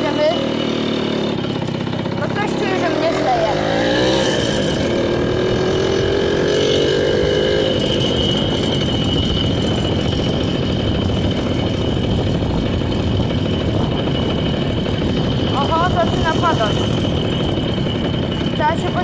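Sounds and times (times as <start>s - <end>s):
two-stroke motorcycle engine: 0.0s - 19.0s.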